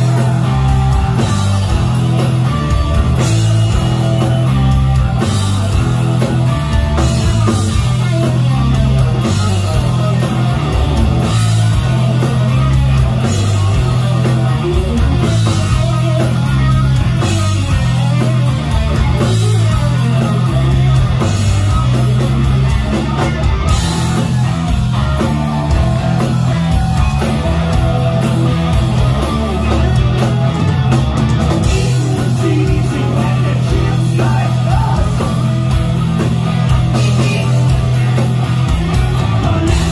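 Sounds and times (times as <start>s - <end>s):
bass guitar: 0.0s - 39.9s
drum kit with cymbal hits: 0.0s - 39.9s
electric guitars: 0.0s - 39.9s.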